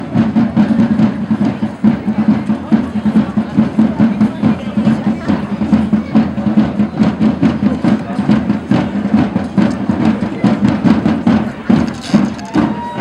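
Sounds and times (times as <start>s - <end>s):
marching band drums: 0.0s - 13.0s.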